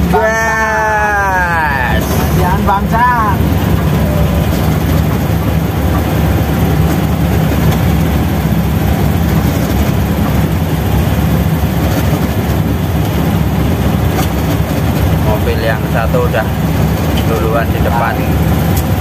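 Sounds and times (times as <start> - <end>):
car engine pulling under load: 0.0 - 19.0.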